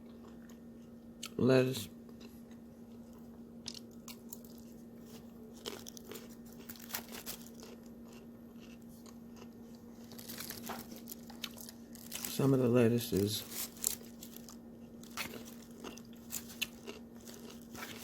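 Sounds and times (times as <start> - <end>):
chewing crunchy salad: 0.0 - 1.4, 2.0 - 18.0.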